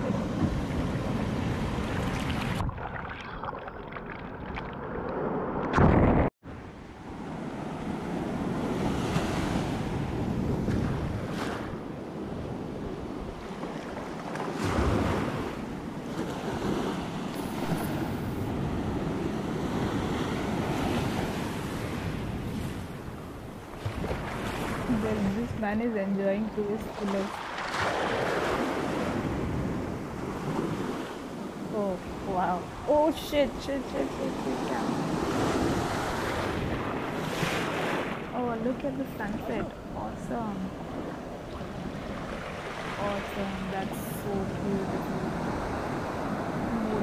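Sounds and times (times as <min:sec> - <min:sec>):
sea waves breaking on sand: 0:06.9 - 0:25.6, 0:26.7 - 0:47.0.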